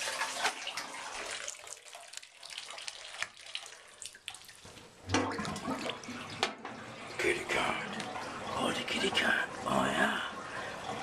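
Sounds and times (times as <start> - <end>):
water running into bathtub: 0.0 - 11.0.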